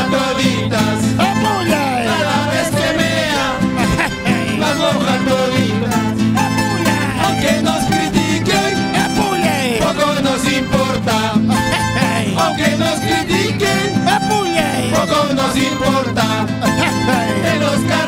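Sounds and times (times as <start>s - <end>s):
acoustic guitars strumming: 0.0s - 18.0s
men singing together: 0.0s - 18.0s.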